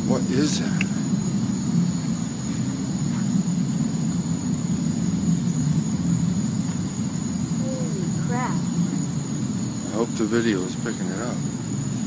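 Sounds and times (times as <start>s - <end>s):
faint high whine: 0.0s - 12.0s
low droning rumble: 0.0s - 12.0s.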